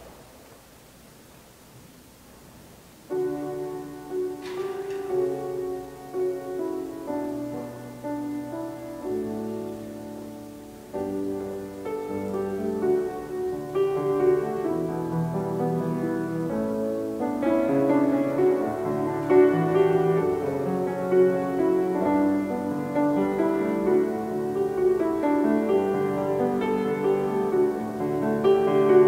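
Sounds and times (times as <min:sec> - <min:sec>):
church keyboard music: 0:00.0 - 0:29.0.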